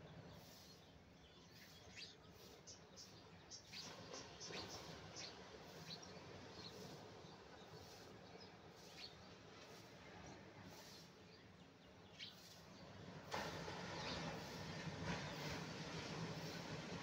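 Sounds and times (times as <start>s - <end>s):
small birds chirping: 0.0s - 13.2s, 13.9s - 16.8s
outdoor background: 0.0s - 17.0s.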